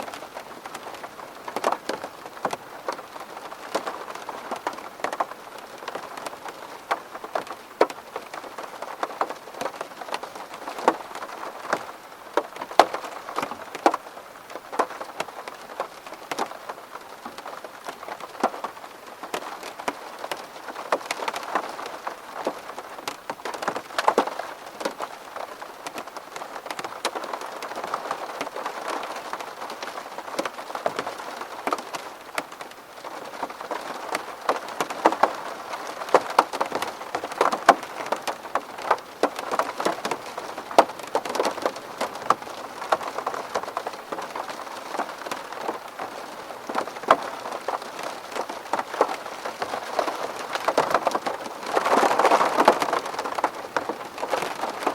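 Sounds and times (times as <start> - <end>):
rain on a window: 0.0 - 54.9
raindrops tapping on glass: 1.5 - 18.7, 25.8 - 54.9.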